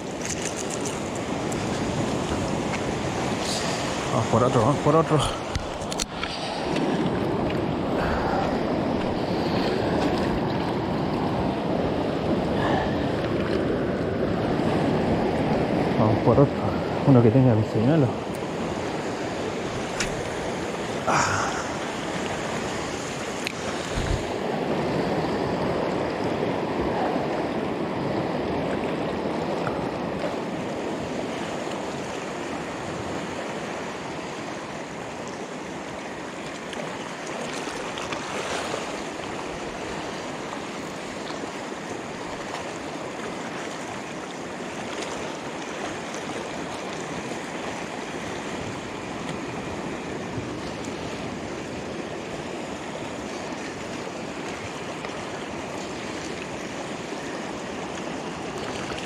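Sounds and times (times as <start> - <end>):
surf washing over rocks: 0.0 - 59.0.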